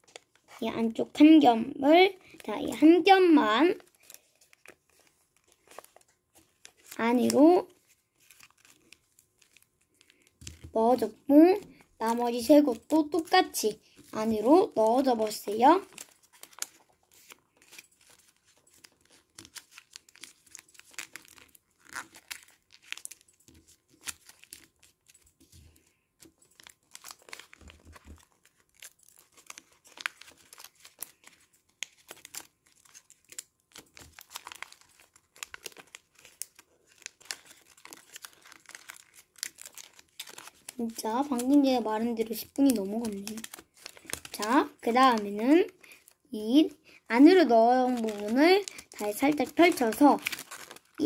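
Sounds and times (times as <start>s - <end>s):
paper crinkling and rustling: 0.0s - 1.0s, 2.2s - 46.2s, 47.1s - 51.0s.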